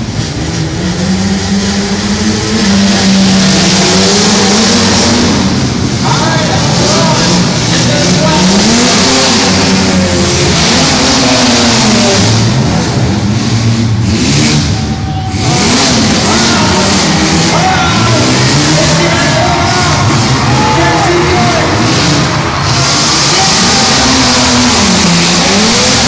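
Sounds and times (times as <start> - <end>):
race car engines revving: 0.0 - 26.0
dense wash of noise: 1.7 - 13.6, 15.0 - 26.0.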